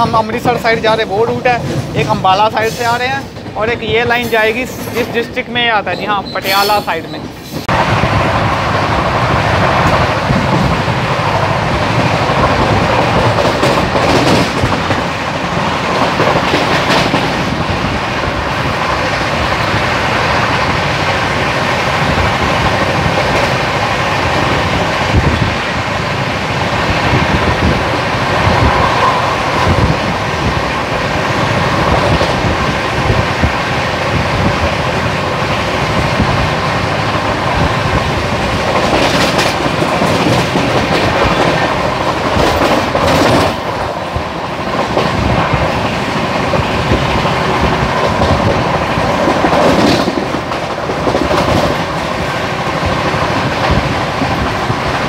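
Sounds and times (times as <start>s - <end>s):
train rumbling from on board: 0.0s - 55.0s.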